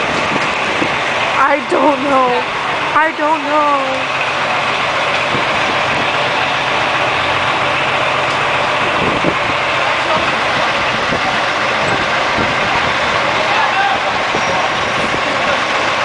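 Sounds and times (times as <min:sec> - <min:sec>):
bus diesel engine idling: 0:00.0 - 0:16.0
city traffic noise: 0:00.0 - 0:16.0.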